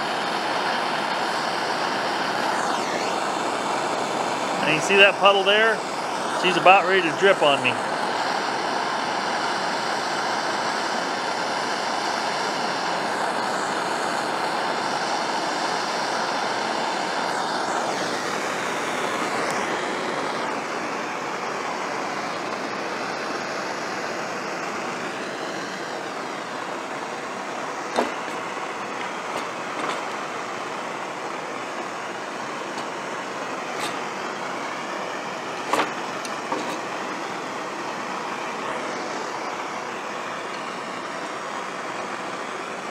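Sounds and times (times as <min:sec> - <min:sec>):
gas torch flame hissing: 0:00.0 - 0:42.9.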